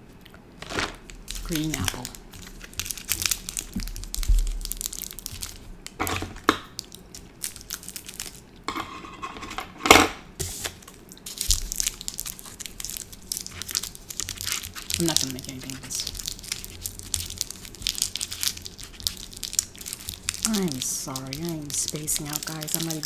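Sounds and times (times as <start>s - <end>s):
plastic candy wrapper crinkling: 0.3s - 8.7s, 10.6s - 23.0s.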